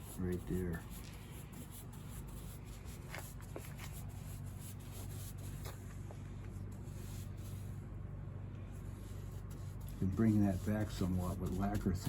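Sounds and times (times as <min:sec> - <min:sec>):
brush scratchy strokes: 0:00.0 - 0:07.8, 0:08.6 - 0:12.0.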